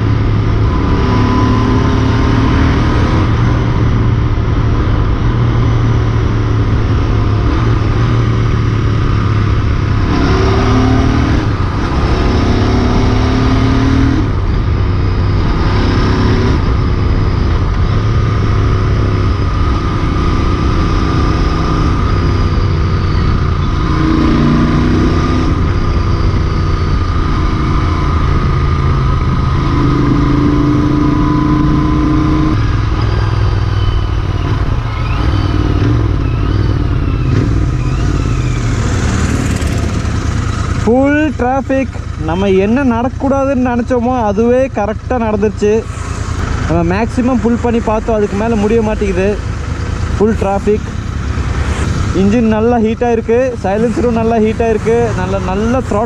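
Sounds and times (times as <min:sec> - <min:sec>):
motorcycle engine running hard: 0:00.0 - 0:56.0.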